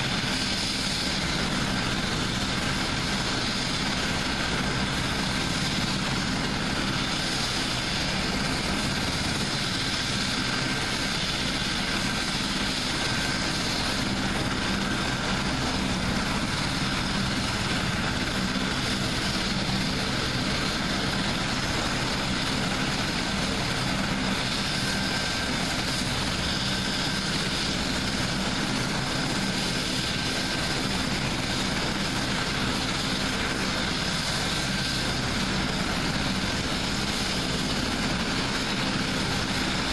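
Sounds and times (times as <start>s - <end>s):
helicopter rotor rush: 0.0s - 39.9s
high turbine whine: 0.0s - 39.9s.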